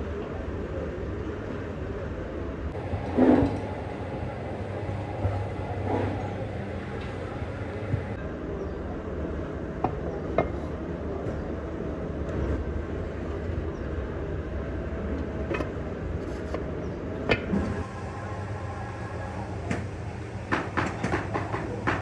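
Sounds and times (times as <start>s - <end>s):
low workshop rumble: 0.1s - 9.0s, 9.6s - 22.0s.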